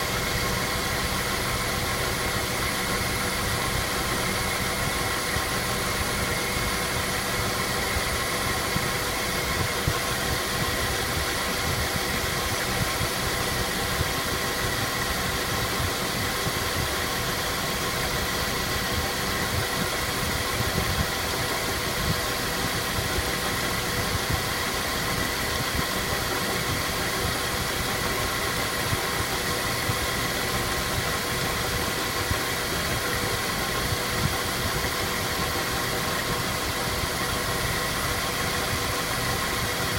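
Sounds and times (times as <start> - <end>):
car mechanical hum: 0.0 - 39.9.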